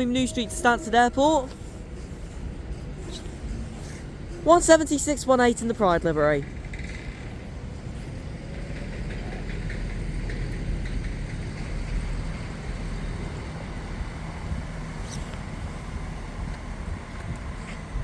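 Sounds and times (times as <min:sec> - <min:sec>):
low rumble of diesel trains: 0:00.0 - 0:18.0.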